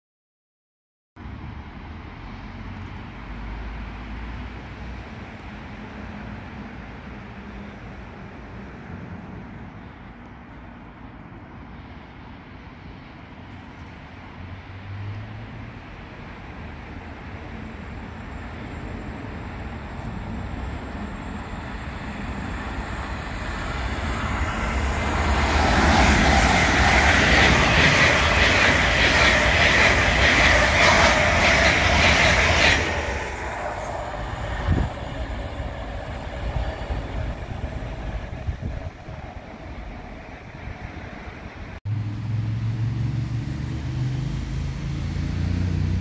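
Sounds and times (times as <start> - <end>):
train passing at speed: 1.2 - 46.0.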